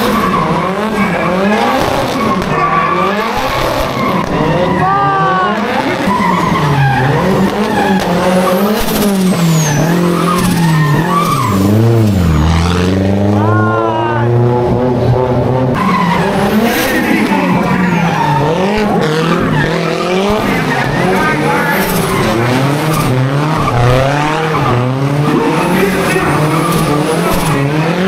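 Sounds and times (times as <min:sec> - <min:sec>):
tyres squealing: 0:00.0 - 0:12.7, 0:15.8 - 0:28.0
car engine revving hard: 0:00.0 - 0:13.6, 0:14.3 - 0:28.0.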